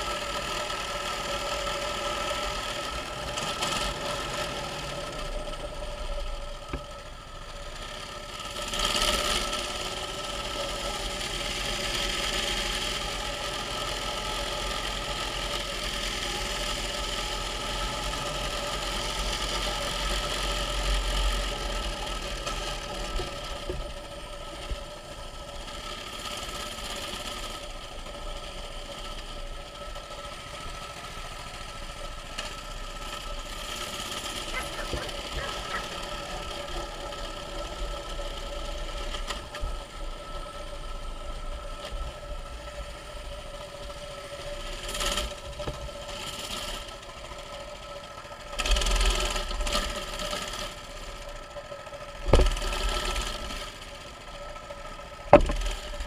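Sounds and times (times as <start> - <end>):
mini bike engine running: 0.0 - 56.0.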